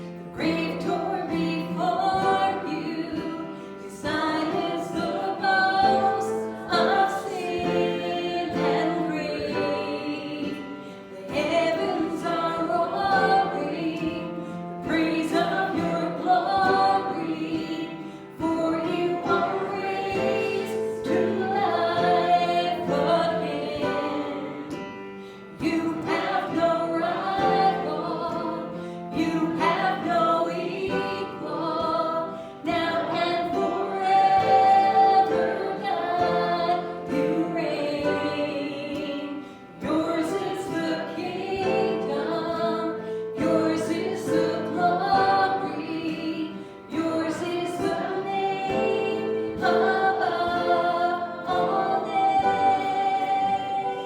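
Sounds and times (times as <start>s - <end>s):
choir singing a gospel hymn: 0.0s - 54.0s
instrumental accompaniment: 0.0s - 54.0s.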